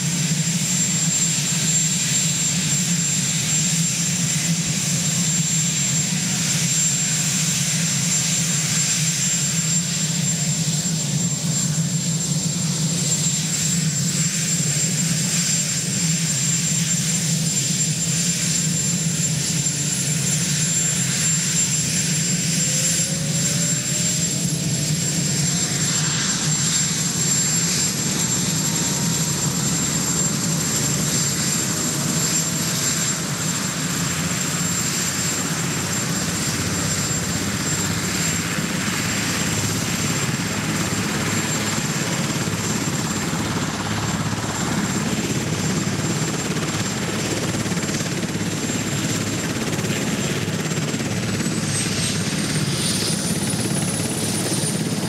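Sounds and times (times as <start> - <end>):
helicopter rotor and engine rumble: 0.0 - 55.0
high turbine whine: 0.0 - 55.0.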